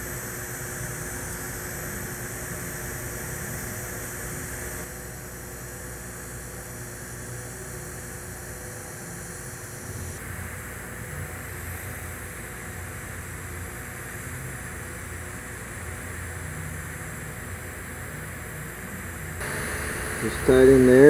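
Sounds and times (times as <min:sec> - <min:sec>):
welding arc hissing: 0:00.0 - 0:21.0.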